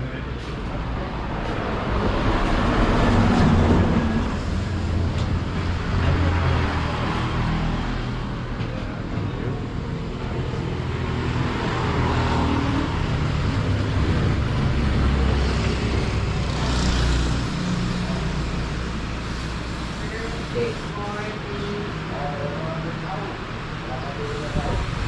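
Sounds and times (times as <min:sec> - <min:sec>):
road noise: 0:00.0 - 0:25.0.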